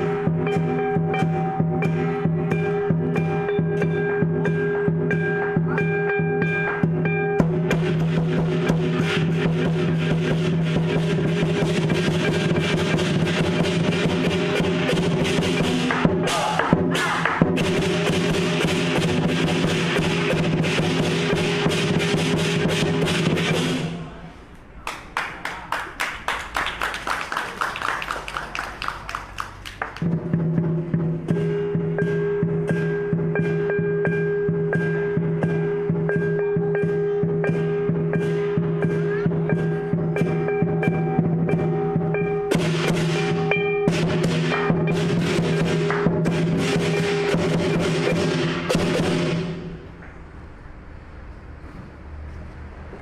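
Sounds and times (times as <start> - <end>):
drum beating fast rhythm: 0.0 - 23.9, 25.9 - 49.8
cymbals crashing: 0.0 - 24.2, 30.0 - 49.9.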